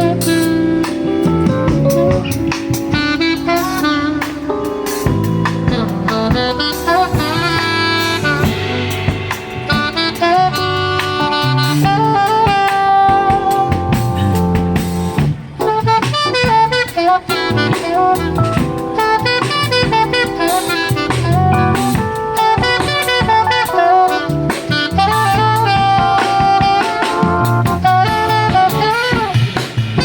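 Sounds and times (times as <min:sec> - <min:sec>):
bass: 0:00.0 - 0:30.0
drum kit: 0:00.0 - 0:30.0
saxophone melody: 0:00.0 - 0:30.0.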